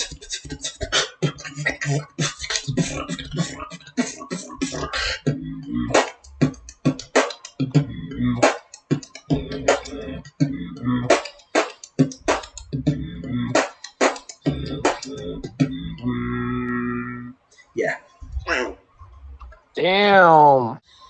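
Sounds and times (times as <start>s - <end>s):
beatboxing: 0.0s - 17.4s, 18.0s - 19.8s.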